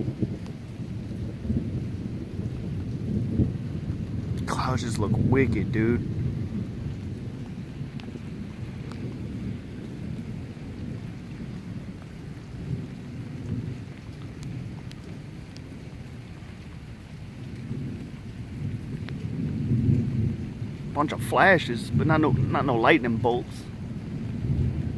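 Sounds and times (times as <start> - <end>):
distant thunder rumbling: 0.0 - 24.9.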